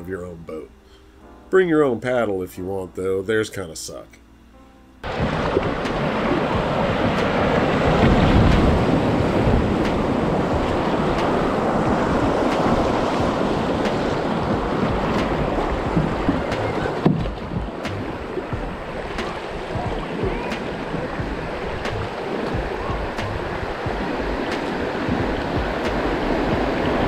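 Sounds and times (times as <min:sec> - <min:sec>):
whitewater rushing and splashing: 0:05.0 - 0:27.0.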